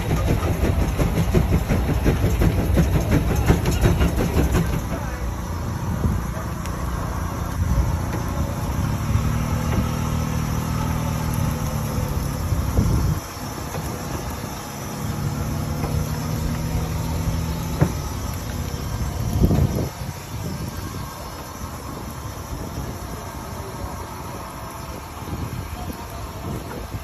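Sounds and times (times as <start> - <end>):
steam tractor humming: 0.0 - 27.0.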